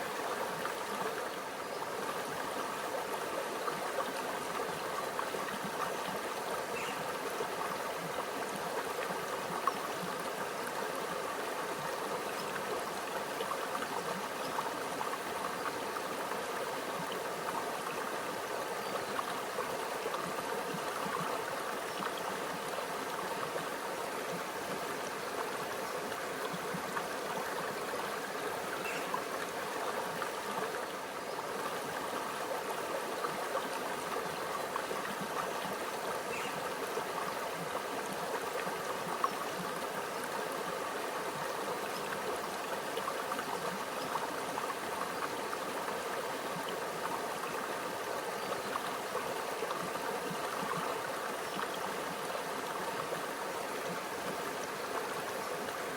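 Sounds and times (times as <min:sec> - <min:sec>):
creek babbling over stones: 0:00.0 - 0:55.9.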